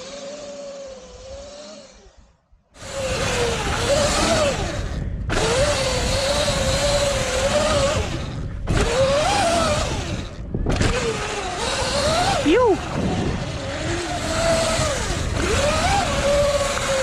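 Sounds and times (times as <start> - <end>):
electric motor whine: 0.0 - 17.0
wind noise: 1.0 - 17.0.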